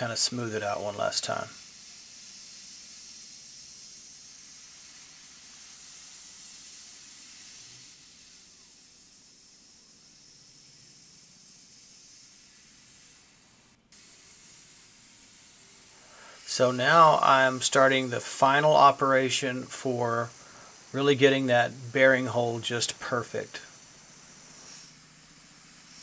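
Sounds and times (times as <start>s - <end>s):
air nozzle hissing: 0.0s - 26.0s.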